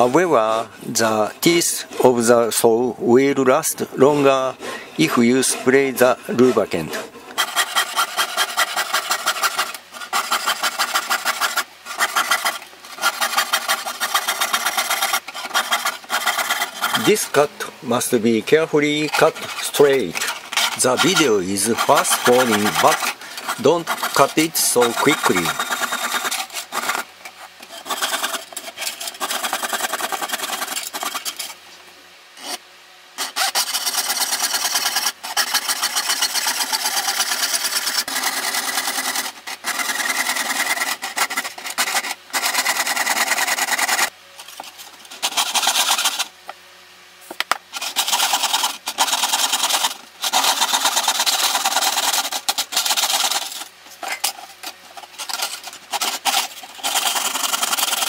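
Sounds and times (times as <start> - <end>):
fret saw cutting metal sheet: 0.0 - 31.6, 33.2 - 46.3, 47.7 - 58.0.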